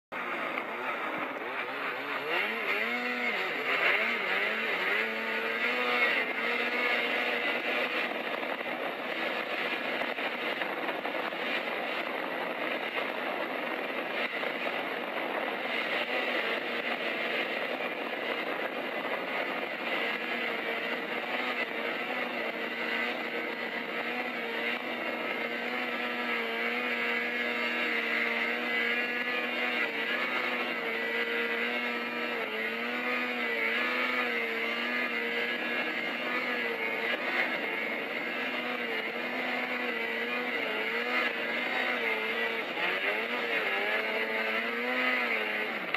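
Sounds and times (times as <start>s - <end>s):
snowmobile engine through speaker: 0.1s - 45.9s.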